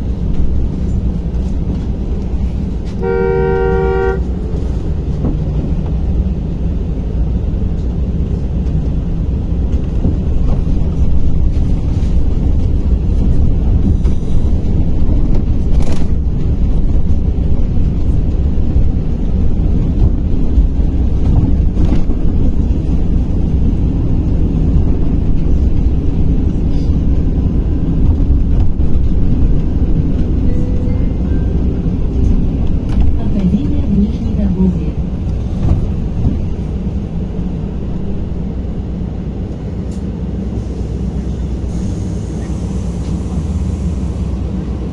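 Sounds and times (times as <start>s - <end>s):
bus cabin road rumble: 0.0s - 44.9s.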